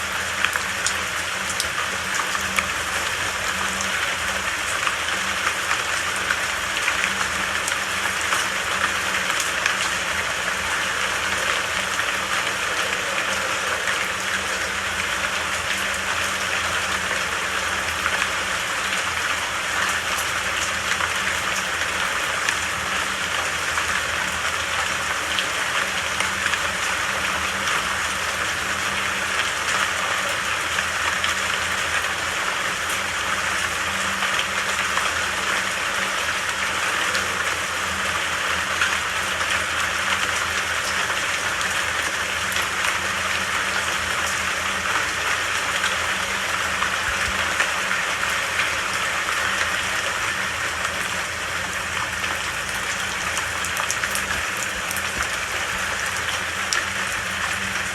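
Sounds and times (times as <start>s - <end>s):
steady rainfall: 0.0s - 57.9s.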